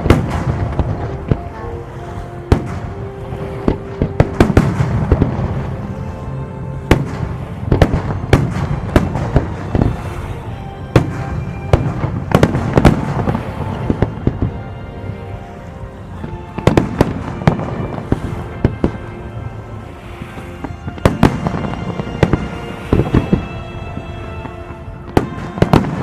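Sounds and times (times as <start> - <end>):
fireworks bangs: 0.0 - 26.0
music soundtrack: 0.0 - 26.0.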